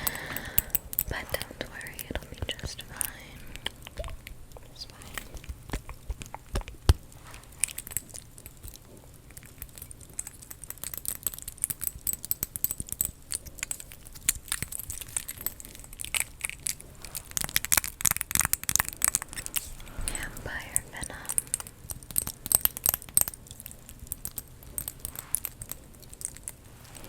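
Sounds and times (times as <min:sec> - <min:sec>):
crinkly rustling: 0:00.0 - 0:27.0
crisp clicks and taps: 0:00.0 - 0:27.0.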